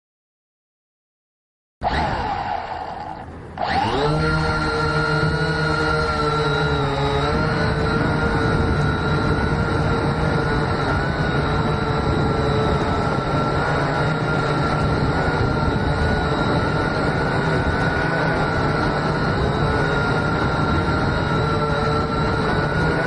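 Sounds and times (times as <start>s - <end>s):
drone motors whining: 1.8s - 23.0s.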